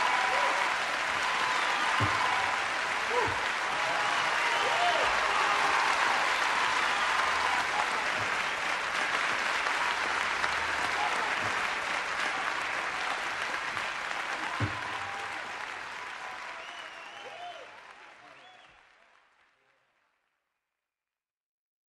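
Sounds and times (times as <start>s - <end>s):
audience applauding: 0.0s - 20.1s.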